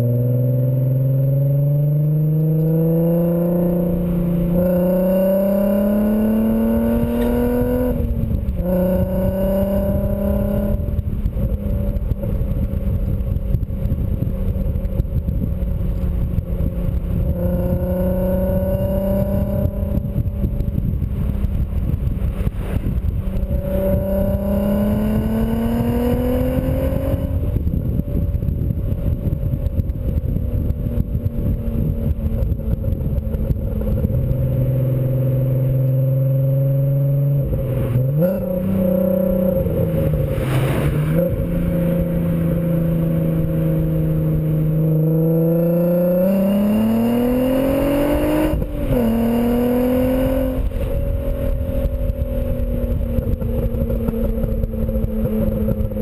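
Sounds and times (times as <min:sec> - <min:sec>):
car engine accelerating: 0:00.0 - 0:56.0
wind on microphone: 0:00.0 - 0:56.0.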